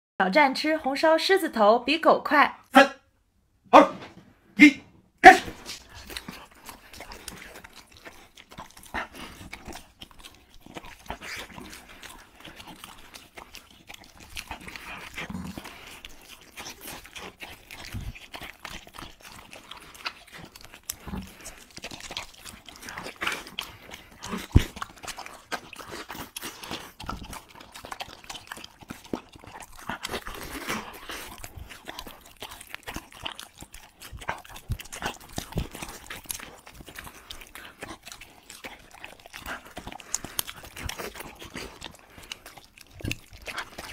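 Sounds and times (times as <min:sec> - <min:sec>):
chewing and wet smacking: 0:05.4 - 0:43.9.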